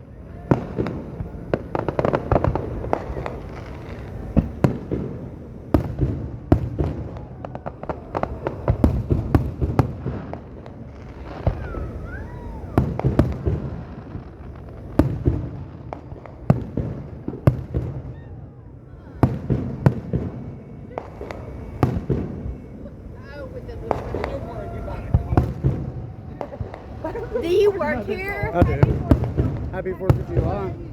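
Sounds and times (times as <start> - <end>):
continuous low rumble: 0.0 - 30.9
fireworks bangs and booms: 0.0 - 30.9.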